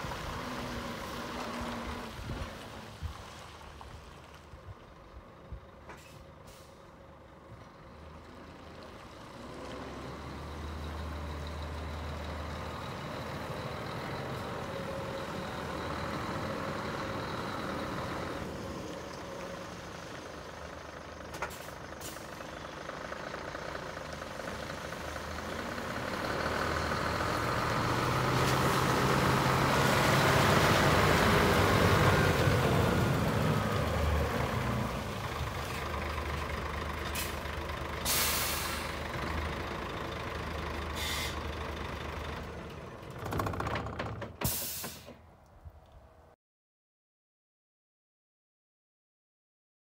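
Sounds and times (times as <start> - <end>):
diesel truck driving past: 0.0 - 45.4.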